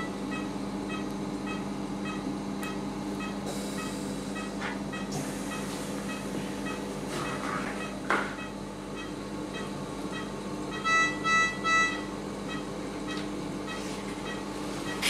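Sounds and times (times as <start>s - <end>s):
patient monitor beeping: 0.0s - 15.0s
steady low hum: 0.0s - 15.0s.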